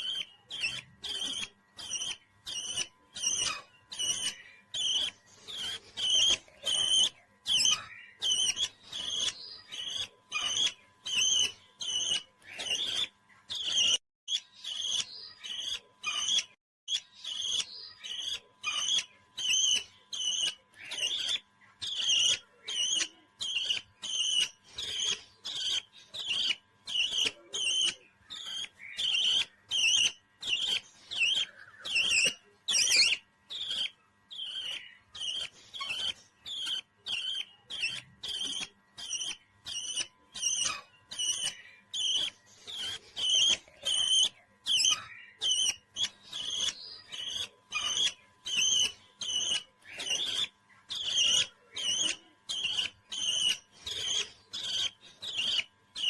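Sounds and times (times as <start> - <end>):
parrot high-pitched chirps: 0.0 - 56.0.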